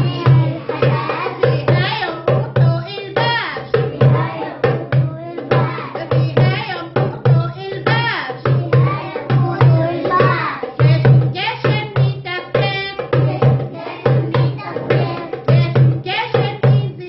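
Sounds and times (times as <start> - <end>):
hand drum rhythm: 0.0 - 17.0
woman singing: 0.0 - 17.0.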